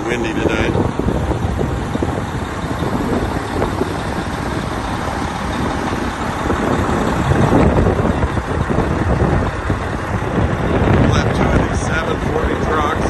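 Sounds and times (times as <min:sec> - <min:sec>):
diesel truck engine idling: 0:00.0 - 0:13.0
wind buffeting microphone: 0:00.0 - 0:13.0.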